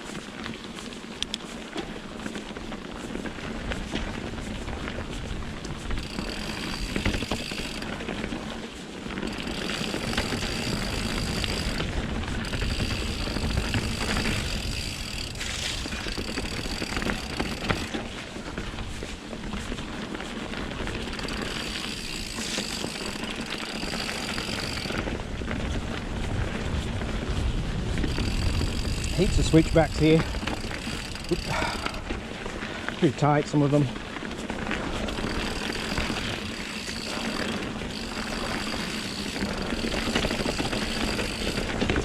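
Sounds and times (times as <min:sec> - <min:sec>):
bike clicks and rattles: 0:00.0 - 0:42.0
bike tyres rolling on wet dirt: 0:00.0 - 0:42.0.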